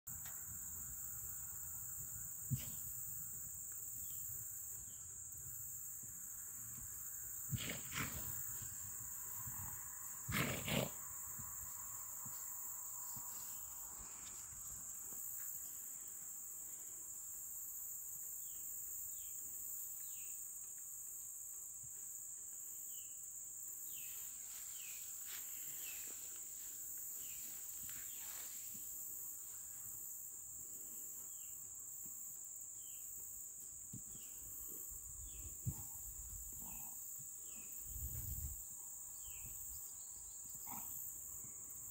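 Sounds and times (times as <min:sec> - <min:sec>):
insects droning: 0:00.1 - 0:41.9.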